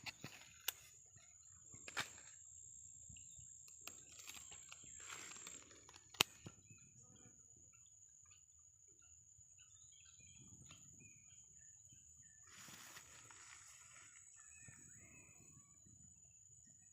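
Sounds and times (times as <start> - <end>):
bird chirps: 2.5 - 16.9.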